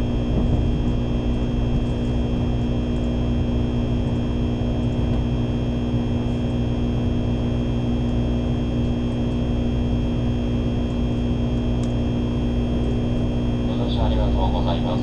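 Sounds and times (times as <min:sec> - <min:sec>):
train cabin rumble and hum: 0:00.0 - 0:15.0.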